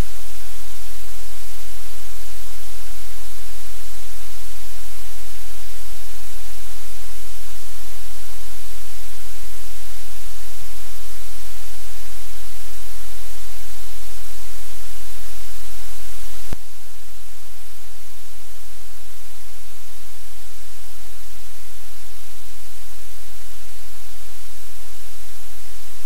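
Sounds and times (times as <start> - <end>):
static hiss: 0.0 - 26.0.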